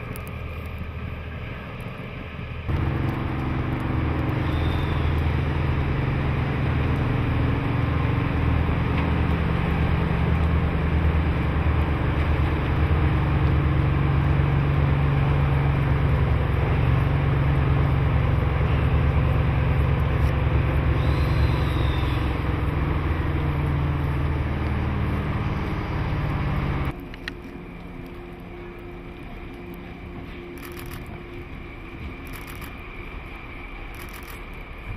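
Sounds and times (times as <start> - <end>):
diesel engines running under load: 0.0 - 34.9.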